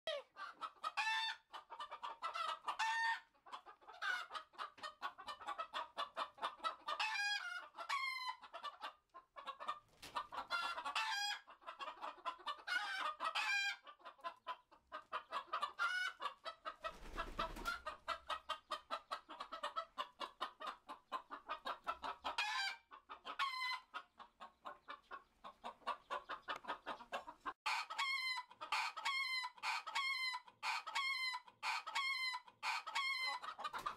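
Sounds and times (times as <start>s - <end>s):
roosters clucking and crowing: 0.1s - 33.9s.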